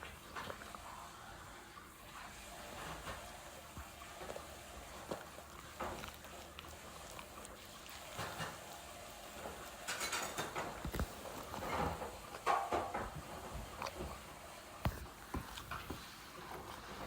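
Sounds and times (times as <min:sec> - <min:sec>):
dog chewing and smacking: 0:00.0 - 0:17.0.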